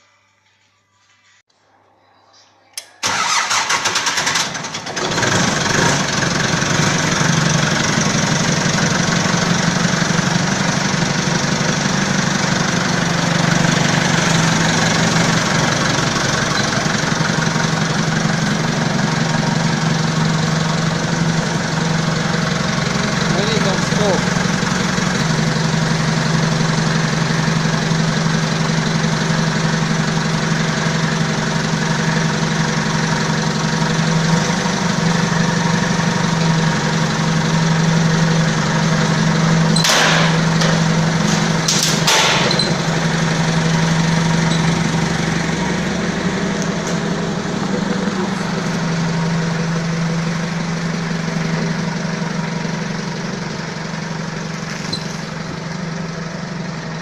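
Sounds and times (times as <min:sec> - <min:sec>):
diesel engine running: 0:02.8 - 0:57.0.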